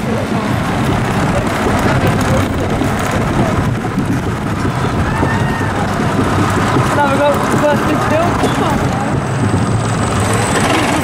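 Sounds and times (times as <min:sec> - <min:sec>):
lift chain rattling: 0:00.7 - 0:11.0.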